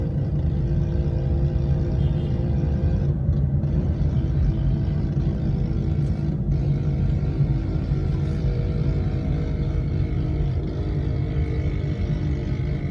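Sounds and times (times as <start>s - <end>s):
road and traffic rumble: 0.0s - 12.9s.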